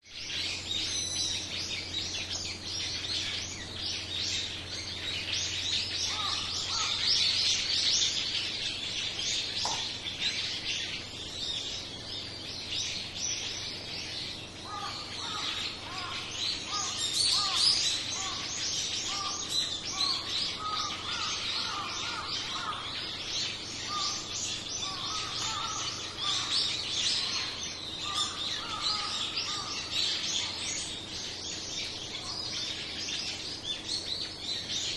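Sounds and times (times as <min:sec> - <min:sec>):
flock of small birds chirping: 0:00.0 - 0:34.9
lower bird call: 0:00.0 - 0:34.9.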